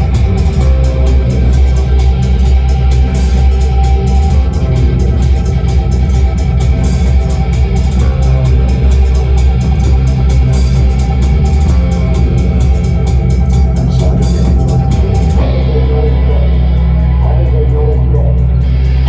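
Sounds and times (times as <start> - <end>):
drums and cymbals: 0.0 - 15.5
bass guitar: 0.0 - 19.0
electric guitar: 0.0 - 19.0.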